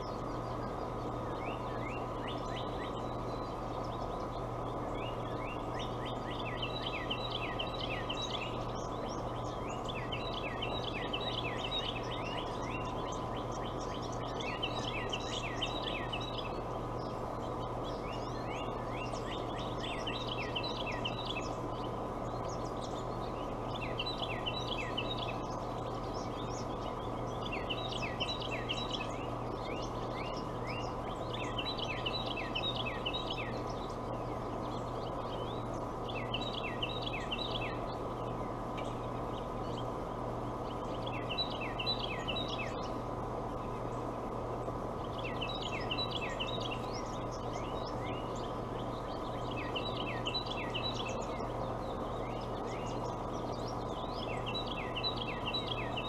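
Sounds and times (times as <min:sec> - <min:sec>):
low electrical hum: 0:00.0 - 0:56.0
songbird chirping: 0:00.0 - 0:56.0.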